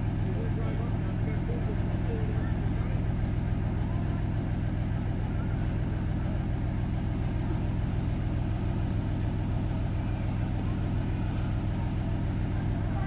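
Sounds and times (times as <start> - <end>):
locomotive engine idling: 0.0 - 13.0.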